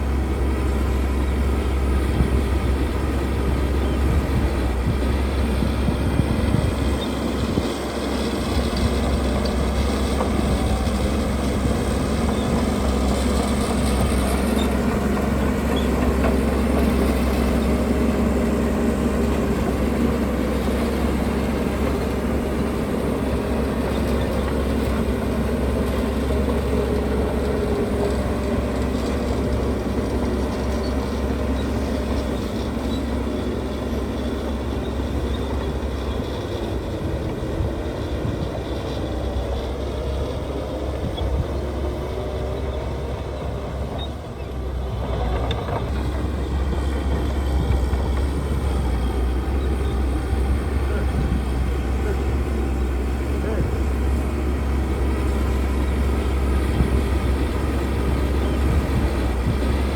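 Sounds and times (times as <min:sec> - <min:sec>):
heavy machinery diesel engine rumbling: 0:00.0 - 0:59.9.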